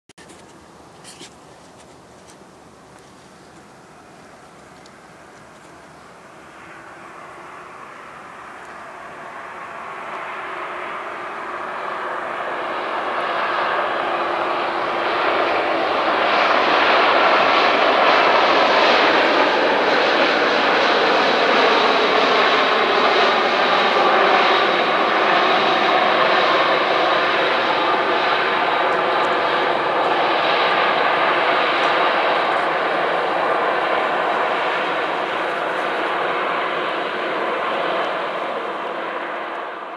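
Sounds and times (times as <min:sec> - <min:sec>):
high turbine whine: 0:00.4 - 0:39.9
jet engine roar: 0:02.5 - 0:39.9.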